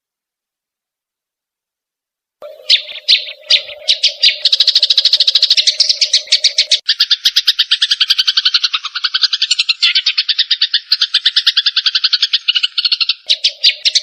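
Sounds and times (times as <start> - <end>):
birds chattering trill: 2.4 - 14.0
harsh bird chatter: 2.4 - 14.0.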